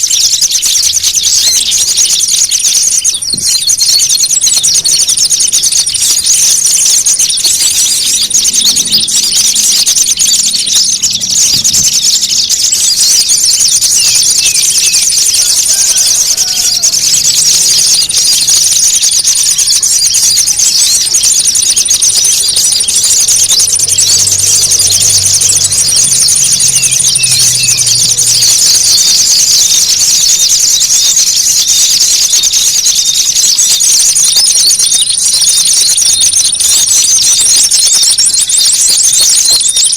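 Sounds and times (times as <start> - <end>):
songbirds chattering: 0.0 - 39.9
thin high bird trill: 0.0 - 39.9.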